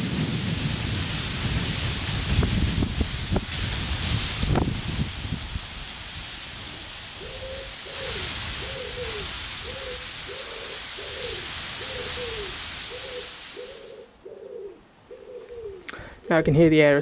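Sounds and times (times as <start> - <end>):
high-pressure air hissing: 0.0 - 14.1.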